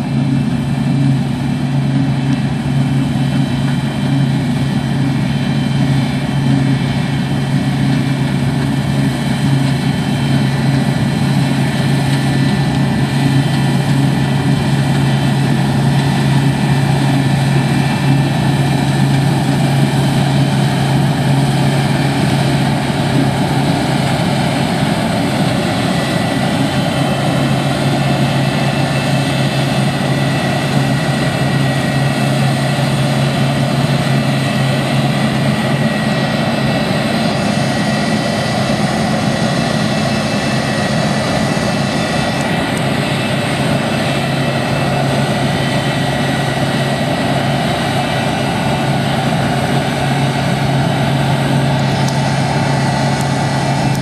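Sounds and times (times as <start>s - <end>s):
combine harvester low drone: 0.0s - 54.0s
high machinery whine: 0.0s - 54.0s.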